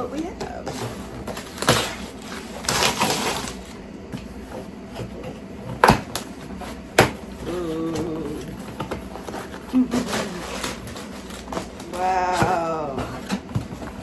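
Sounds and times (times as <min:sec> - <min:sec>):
cardboard scraping: 0:00.4 - 0:14.0.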